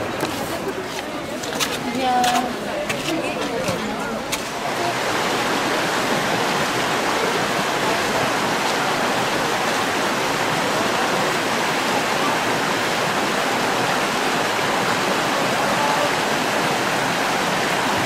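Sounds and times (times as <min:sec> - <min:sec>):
stream of water rushing: 0:00.0 - 0:18.0.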